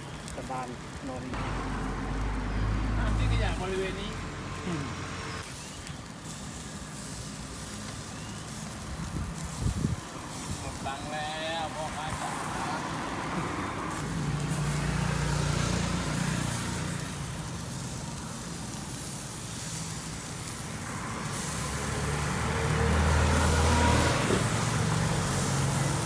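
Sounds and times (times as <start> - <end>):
vehicles passing on road: 0.0 - 26.0.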